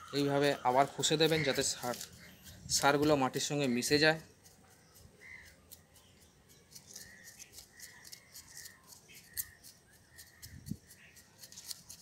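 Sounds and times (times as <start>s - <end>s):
trowel scraping dry soil: 0.4s - 12.0s.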